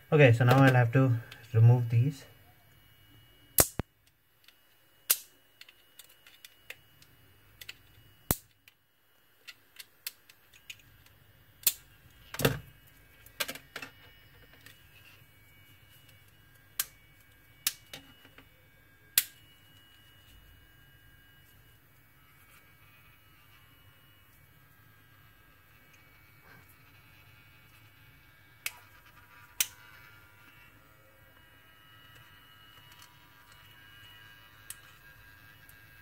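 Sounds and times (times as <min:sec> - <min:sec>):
faint motor hum: 0:00.0 - 0:36.0.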